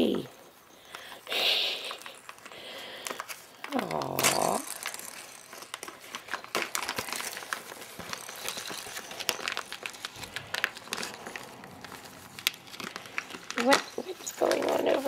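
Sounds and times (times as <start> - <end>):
wrapping crinkling and rustling: 0.0 - 15.0.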